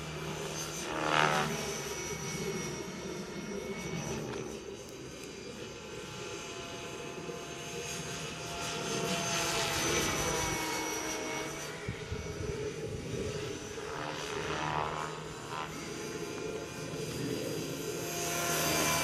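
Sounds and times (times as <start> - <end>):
model helicopter rotor whine: 0.0 - 19.0.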